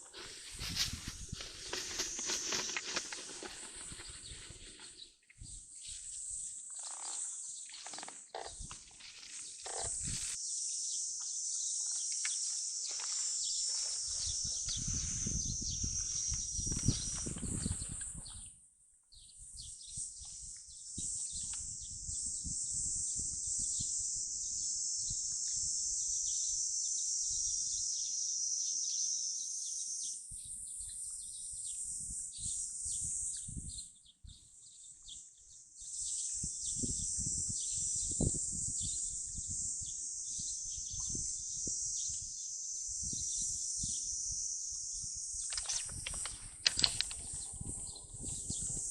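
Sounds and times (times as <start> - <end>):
insects chirring: 0.0 - 18.6, 19.2 - 34.0, 34.6 - 48.9.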